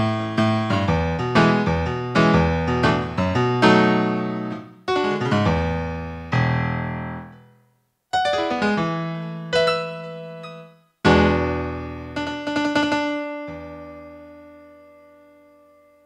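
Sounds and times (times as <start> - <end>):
synthesized piano chords: 0.0 - 16.0.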